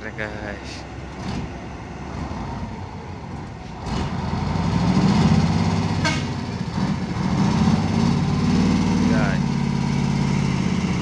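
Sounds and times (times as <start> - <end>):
truck engine straining: 0.0 - 11.0.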